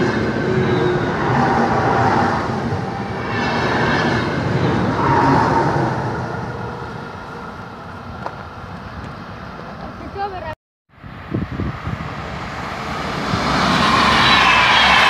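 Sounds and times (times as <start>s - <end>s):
train wheels rumbling on rails: 0.0s - 10.5s, 11.5s - 15.0s.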